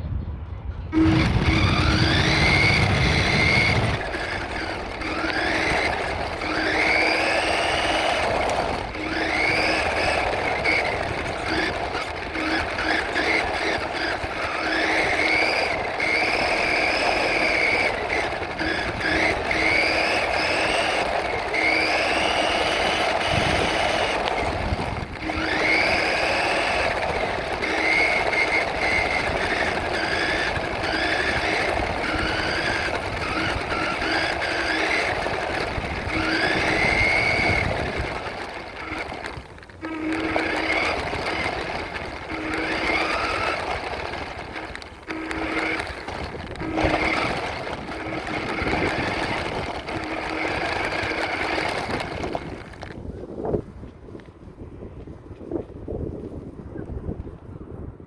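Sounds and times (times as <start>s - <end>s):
toy truck motor whining: 0.9s - 53.2s.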